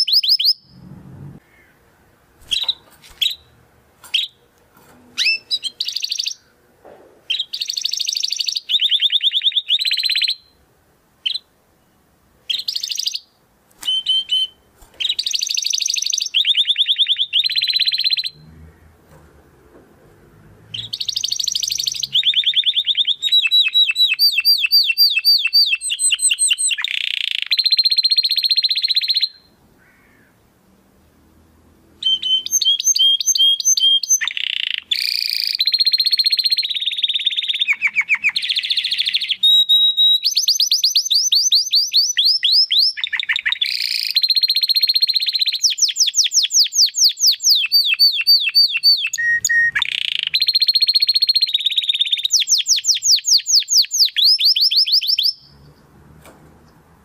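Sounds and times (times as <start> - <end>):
canary singing trills: 0.0 - 1.8, 2.4 - 3.5, 5.2 - 6.6, 7.3 - 10.6, 11.2 - 18.9, 20.7 - 30.0, 32.0 - 55.8.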